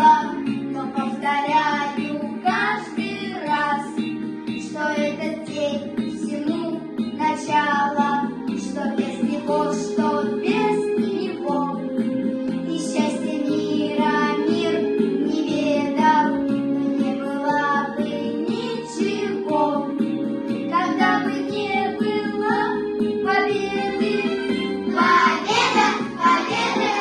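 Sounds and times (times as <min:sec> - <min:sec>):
children singing: 0:00.0 - 0:03.9, 0:04.6 - 0:11.8, 0:12.6 - 0:16.4, 0:17.0 - 0:20.0, 0:20.7 - 0:27.0
instrumental accompaniment: 0:00.0 - 0:27.0.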